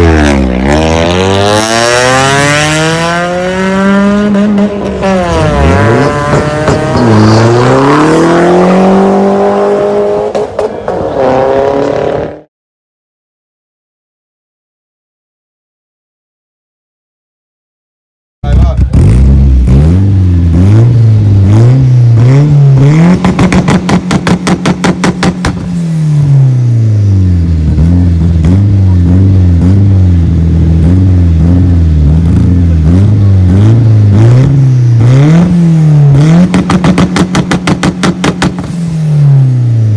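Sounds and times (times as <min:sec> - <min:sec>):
car engine revving: 0:00.0 - 0:12.5, 0:18.5 - 0:39.9
engine bouncing off rev limiter: 0:00.0 - 0:12.5, 0:18.5 - 0:39.9.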